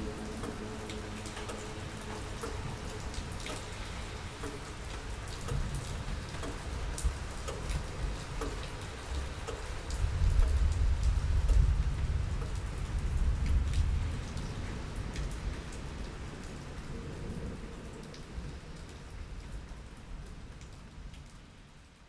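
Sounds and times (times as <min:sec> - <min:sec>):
raindrops ticking: 0:00.0 - 0:22.0
steady rain: 0:00.0 - 0:22.0.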